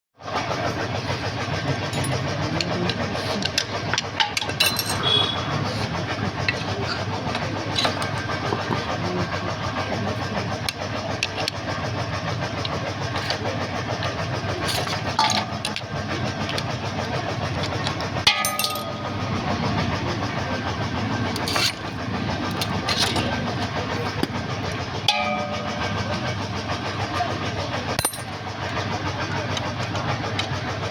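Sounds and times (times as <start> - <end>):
engine running: 0.2 - 30.9.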